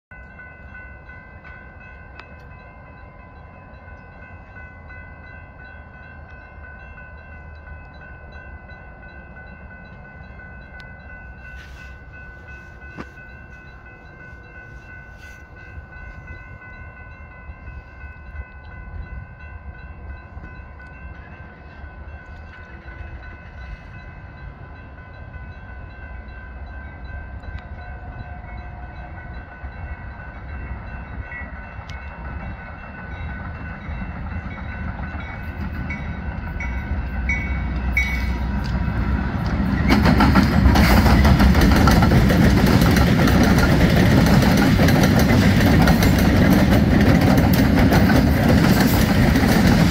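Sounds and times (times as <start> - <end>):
crossing warning bell ringing: 0.1 - 49.9
train rumble: 0.1 - 49.9.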